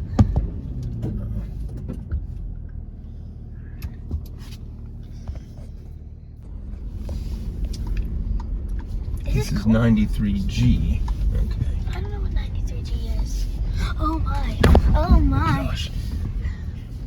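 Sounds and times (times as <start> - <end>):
knocks and rattles over bumps: 0.0 - 17.0
vehicle engine low rumble: 0.0 - 17.0.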